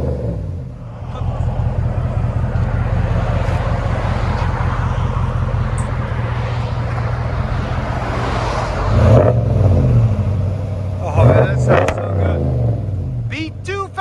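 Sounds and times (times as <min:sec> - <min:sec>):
loud engine running: 0:00.0 - 0:14.0.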